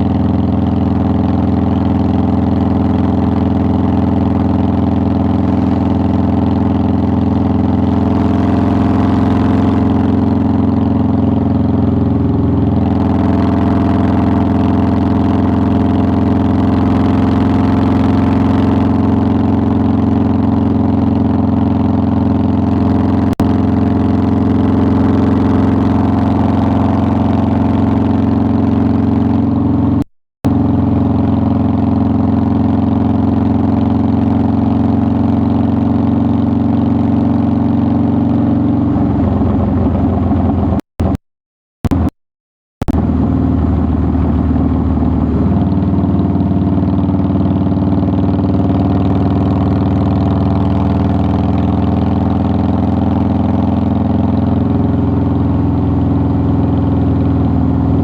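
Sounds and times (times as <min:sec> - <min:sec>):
motorcycle engine running: 0:00.0 - 0:41.2, 0:41.8 - 0:42.2, 0:42.8 - 0:58.0.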